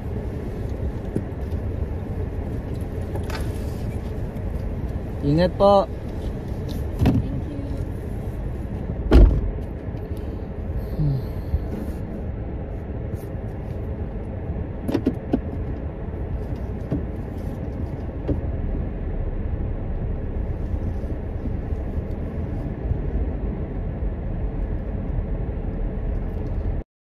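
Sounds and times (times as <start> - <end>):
car cabin road and engine rumble: 0.0 - 26.8.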